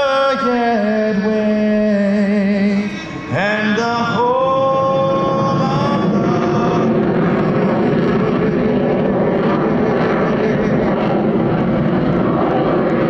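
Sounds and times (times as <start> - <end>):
jet engine roar flying by: 0.0 - 13.0.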